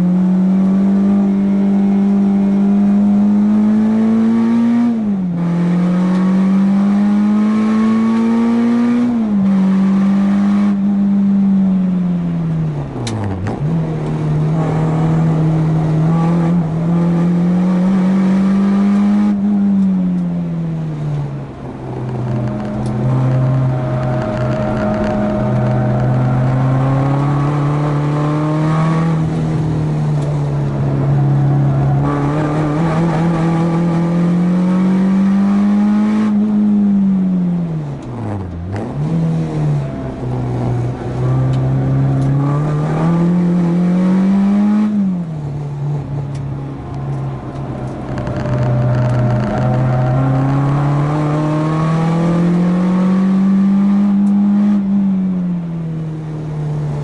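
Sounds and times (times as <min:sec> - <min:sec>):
car engine revving under load: 0:00.0 - 0:57.0.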